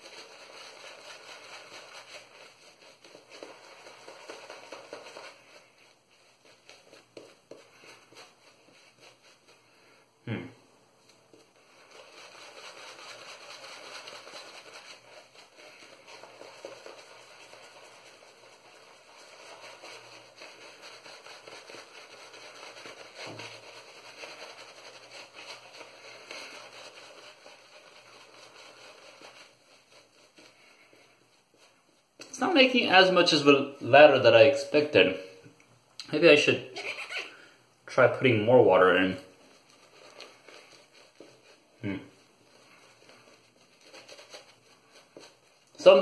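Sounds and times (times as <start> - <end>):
shaving brush swishing lather: 0.0 - 10.1, 11.0 - 35.3, 36.3 - 46.0.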